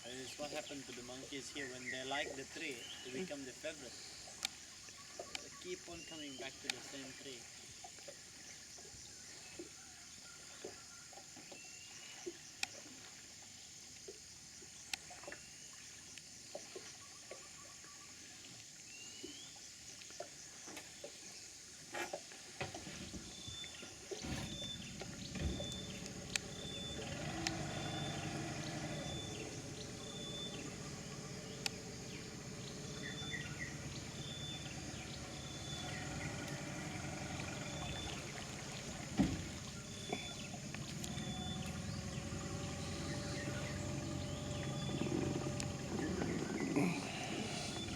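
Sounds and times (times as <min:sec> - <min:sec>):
outboard motor droning: 0:00.0 - 0:47.9.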